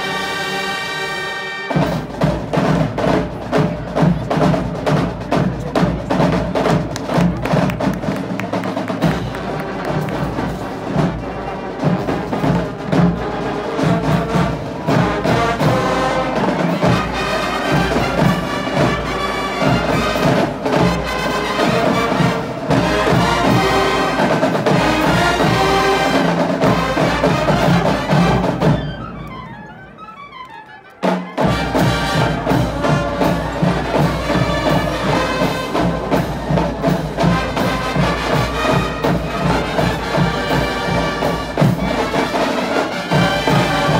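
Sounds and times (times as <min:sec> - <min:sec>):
marching band playing: 0:00.0 - 0:43.9
heavy drumming: 0:01.7 - 0:28.9, 0:31.0 - 0:43.9.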